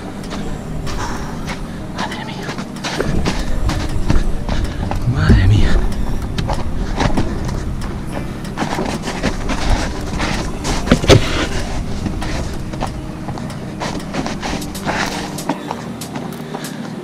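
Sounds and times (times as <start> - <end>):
footsteps on rock and snow: 0.0 - 17.0.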